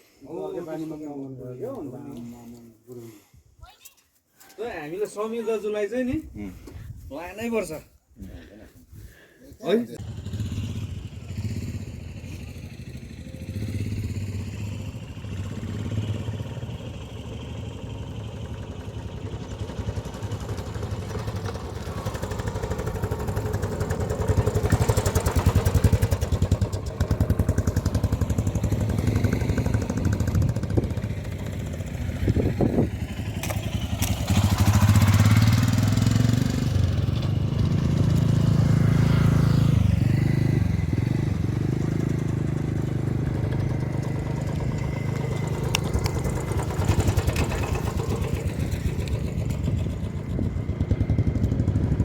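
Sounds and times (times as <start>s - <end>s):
motorcycle engines running: 10.0s - 52.0s.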